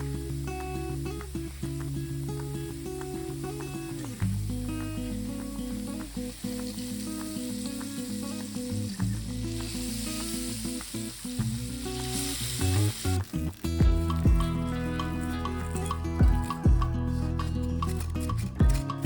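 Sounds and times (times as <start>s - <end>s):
hot oil sizzling and bubbling: 0.0s - 16.6s
music with plucked notes: 0.0s - 19.0s.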